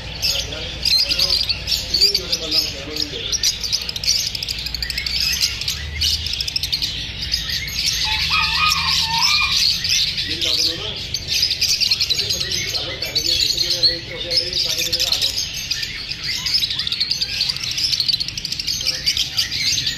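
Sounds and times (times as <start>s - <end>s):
lovebirds chirping: 0.0s - 19.9s.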